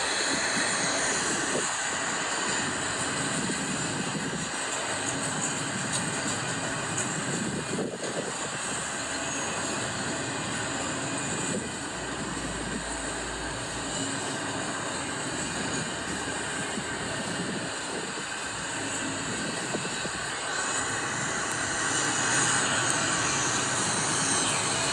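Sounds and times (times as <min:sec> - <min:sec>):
train wheels on rails: 0:00.0 - 0:24.9.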